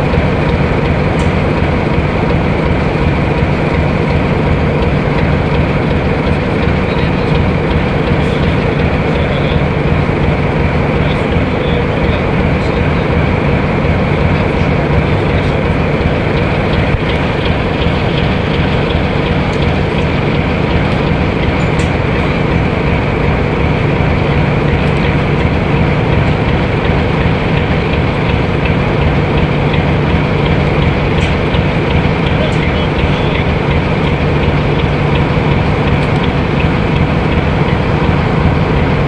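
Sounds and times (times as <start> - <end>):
diesel locomotive engine running: 0.0 - 39.0.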